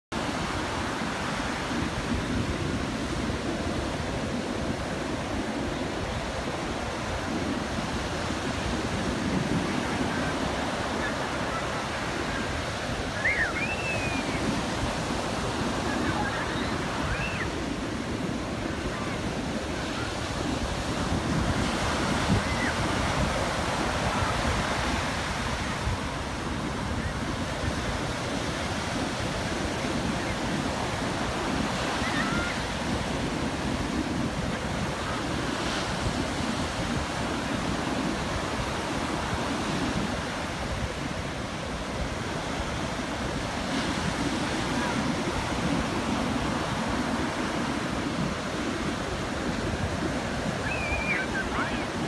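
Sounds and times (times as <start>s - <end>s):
waves breaking on beach: 0.2s - 52.0s
wind buffeting microphone: 0.2s - 52.0s.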